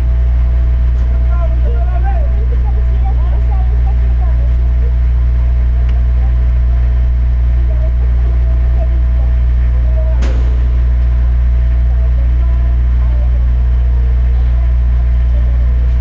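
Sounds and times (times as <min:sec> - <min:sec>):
distant jet engines rumbling: 0:00.0 - 0:16.0
thin steady whine: 0:00.0 - 0:16.0.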